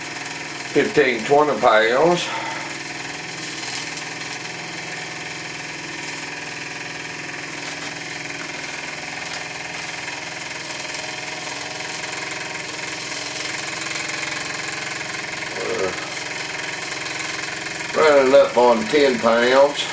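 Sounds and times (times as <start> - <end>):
model steam engine clattering: 0.0 - 19.9.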